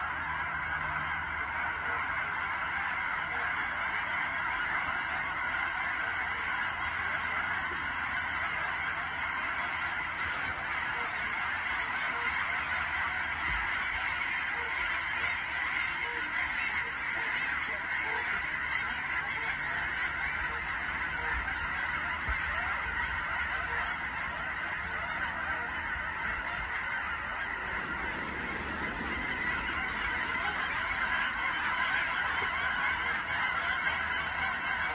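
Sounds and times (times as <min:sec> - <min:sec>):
flock of geese and swans honking: 0:00.0 - 0:34.9.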